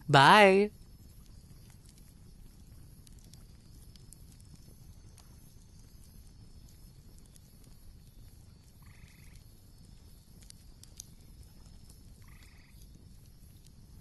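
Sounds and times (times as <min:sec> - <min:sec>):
campfire crackles: 0:00.0 - 0:14.0.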